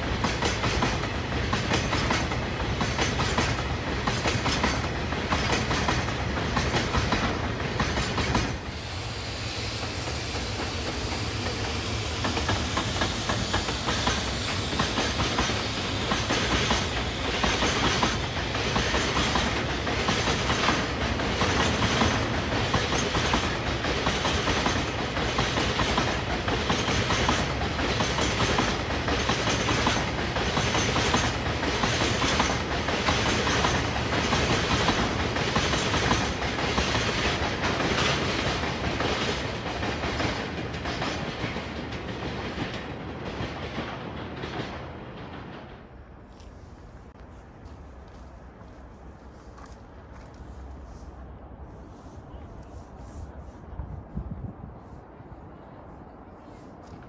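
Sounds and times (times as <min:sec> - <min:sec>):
train wheels clattering over rail joints: 0:00.0 - 0:46.2.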